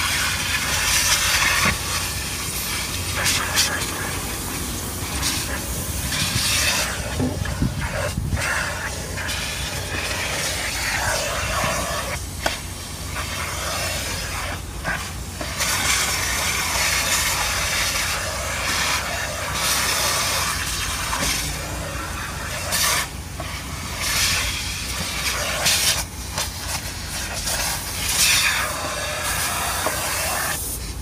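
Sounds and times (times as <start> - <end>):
vacuum hose sucking hiss: 0.0 - 31.0.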